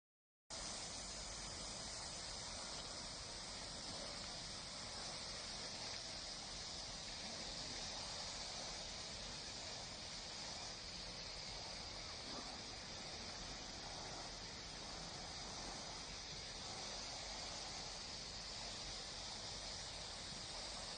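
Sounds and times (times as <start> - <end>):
faint high-pitched hissing chorus: 0.5 - 20.9.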